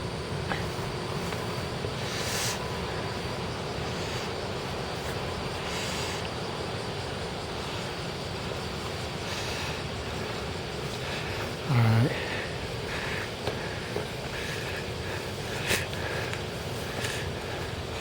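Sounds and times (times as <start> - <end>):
outdoor background rumble and hiss: 0.0 - 18.0.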